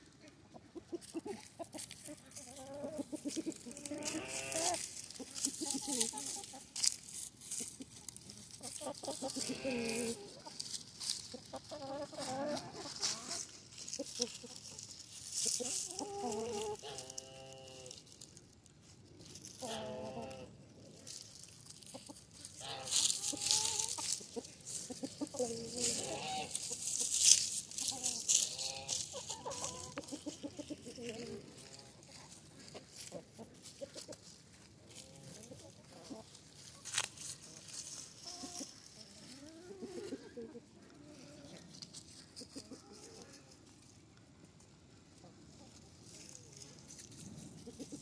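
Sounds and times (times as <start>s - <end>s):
chickens clucking: 0.0s - 48.0s
dry leaves rustling: 1.0s - 40.2s, 41.2s - 44.0s, 45.5s - 48.0s.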